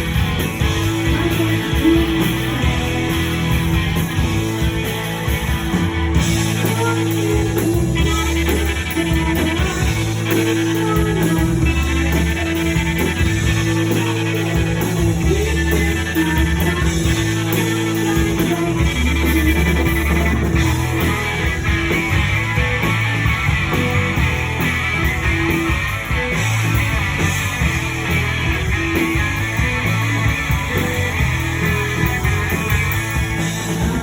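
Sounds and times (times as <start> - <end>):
bass guitar: 0.0 - 34.0
drums: 0.0 - 34.0
electric guitars: 0.0 - 34.0.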